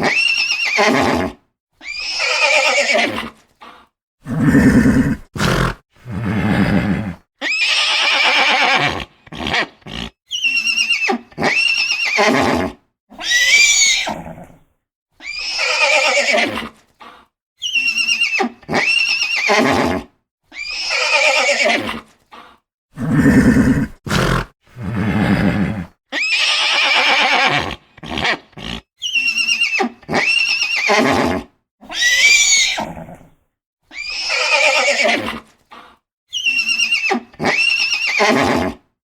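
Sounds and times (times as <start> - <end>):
horses whinnying: 0.0 - 3.4, 4.3 - 14.6, 15.2 - 16.7, 17.6 - 20.0, 20.6 - 22.0, 23.0 - 33.2, 33.9 - 35.4, 36.3 - 38.8.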